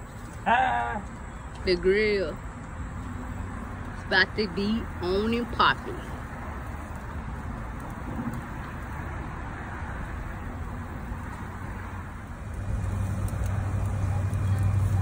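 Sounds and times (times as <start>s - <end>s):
charcoal fire crackling hiss: 0.0s - 15.0s.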